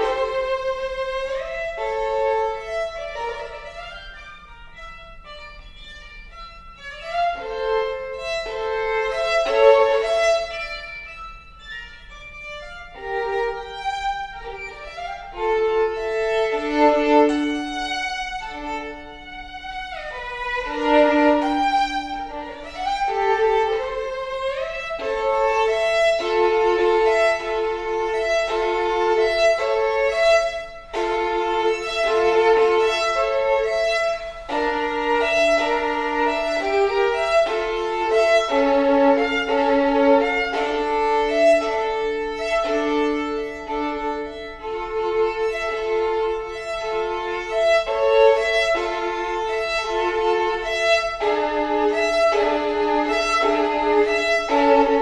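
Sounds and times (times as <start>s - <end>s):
solo violin playing: 0.0s - 55.0s.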